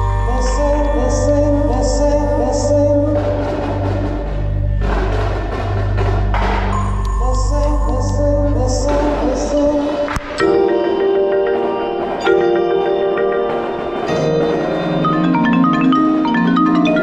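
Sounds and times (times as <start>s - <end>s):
percussion ensemble music: 0.0s - 17.0s.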